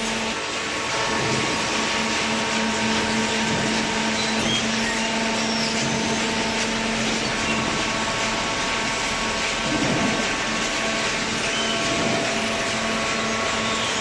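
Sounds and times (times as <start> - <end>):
cardboard baler machine droning: 0.0 - 14.0.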